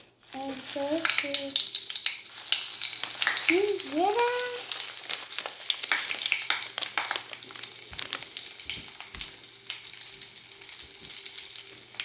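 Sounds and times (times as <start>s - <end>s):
crackles popping in bath water: 0.0s - 12.0s.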